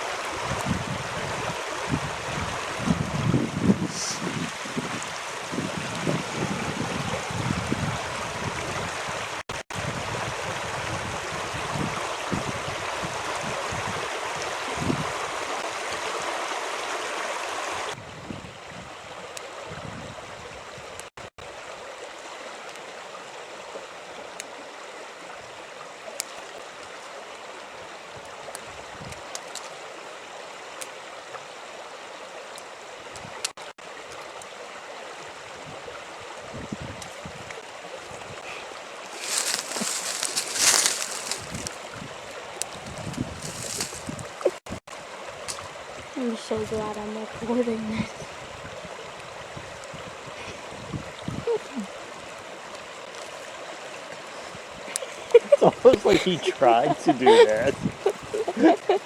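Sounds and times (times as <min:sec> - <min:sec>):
creek water running: 0:00.0 - 0:59.0.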